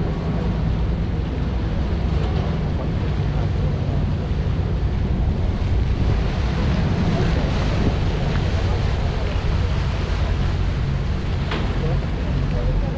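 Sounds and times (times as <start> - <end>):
boat engines droning: 0.0 - 12.9
wind rumbling on microphone: 0.0 - 12.9.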